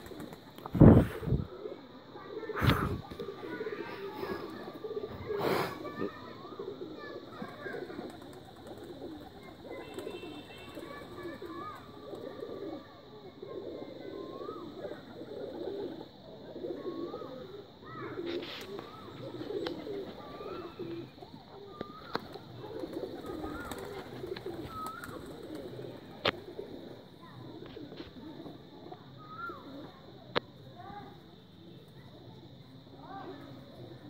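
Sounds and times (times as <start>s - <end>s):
pigeons cooing: 0.0s - 30.3s.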